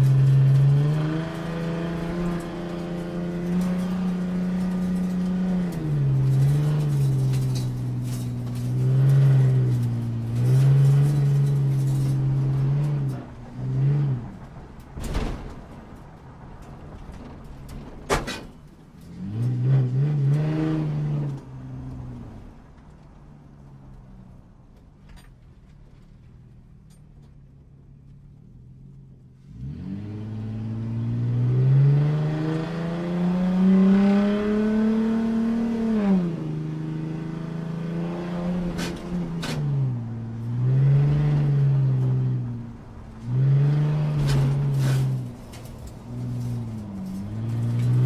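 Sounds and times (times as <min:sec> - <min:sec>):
car engine revving: 0:00.0 - 0:24.0, 0:29.4 - 0:48.0
exhaust cracks: 0:00.0 - 0:48.0.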